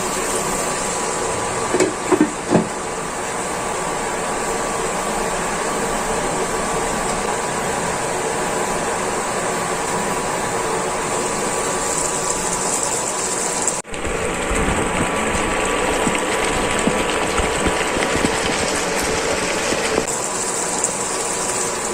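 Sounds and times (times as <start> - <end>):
food bubbling in a wok: 0.0 - 21.9.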